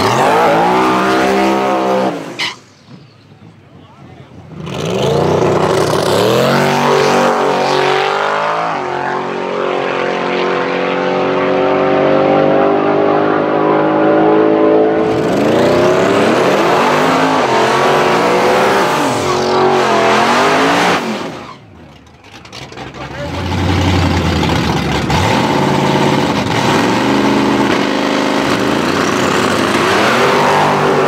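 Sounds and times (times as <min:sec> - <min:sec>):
car engine revving high: 0:00.0 - 0:02.4, 0:04.5 - 0:21.4, 0:23.3 - 0:31.0.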